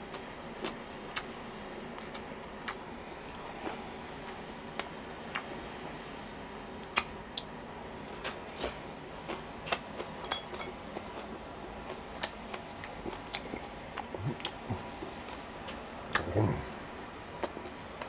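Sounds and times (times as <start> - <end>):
person chewing: 2.0 - 5.6, 6.8 - 18.0.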